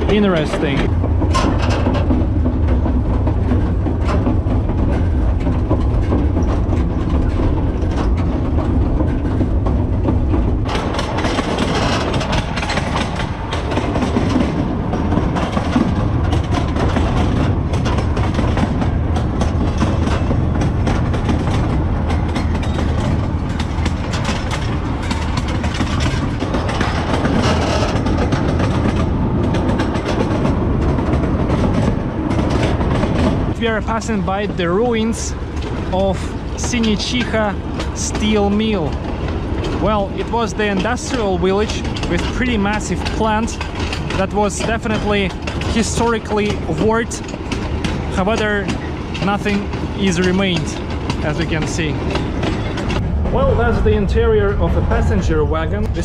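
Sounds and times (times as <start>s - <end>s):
train wagon rattling on rails: 0.0s - 56.0s.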